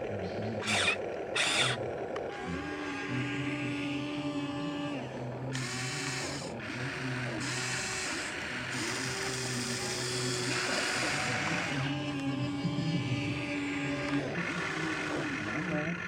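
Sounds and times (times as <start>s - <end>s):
toy excavator motors whirring: 0.0s - 16.0s.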